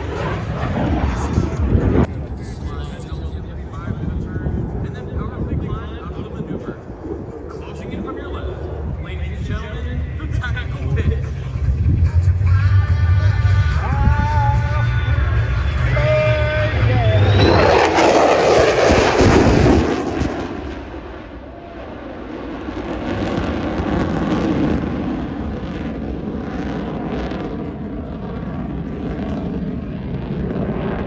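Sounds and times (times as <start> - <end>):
airplane engine fly-by: 0.0 - 31.0.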